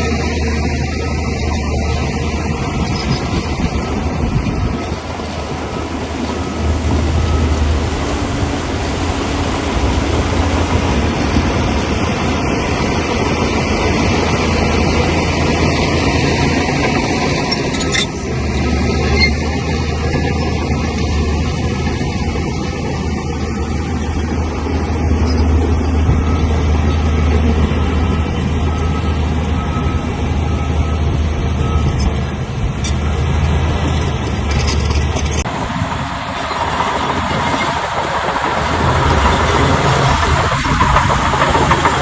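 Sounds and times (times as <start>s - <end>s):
steel tracks clattering: 0.0s - 30.4s, 31.4s - 42.0s
diesel engine running under load: 0.0s - 42.0s.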